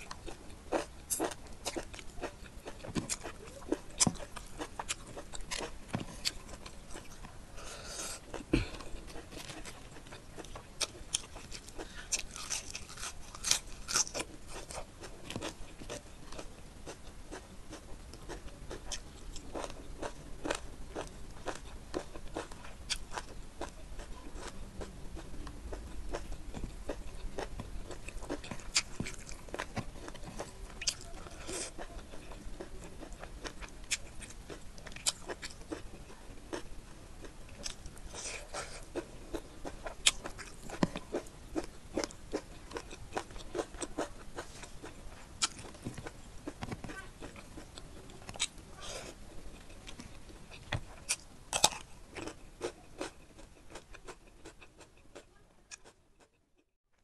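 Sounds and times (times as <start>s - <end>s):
person chewing food: 0.0s - 56.4s.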